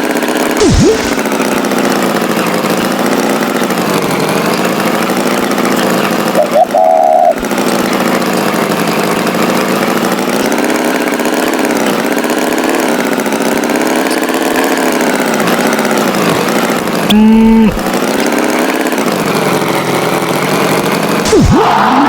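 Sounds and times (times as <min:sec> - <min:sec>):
tractor engine running: 0:00.2 - 0:06.7, 0:07.3 - 0:22.0.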